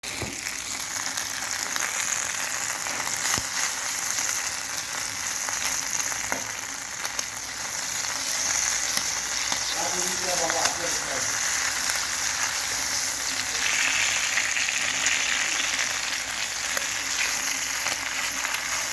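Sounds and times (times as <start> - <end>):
food sizzling in hot oil: 0.0 - 18.9.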